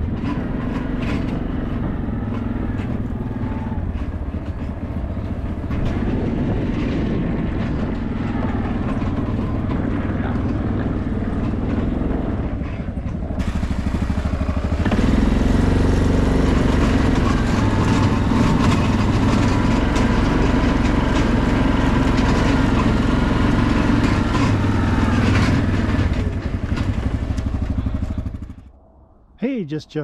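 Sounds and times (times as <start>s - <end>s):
vehicle engine running: 0.0s - 28.8s.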